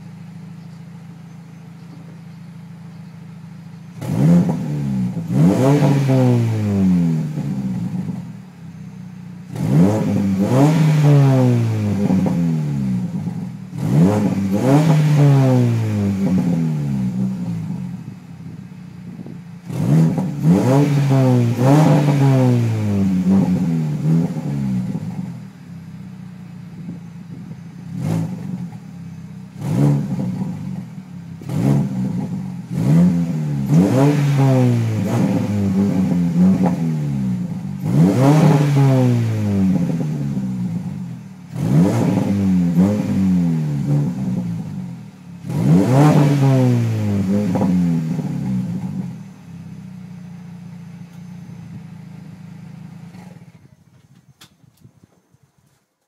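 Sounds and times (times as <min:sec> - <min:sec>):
car engine revving: 0:00.0 - 0:53.8.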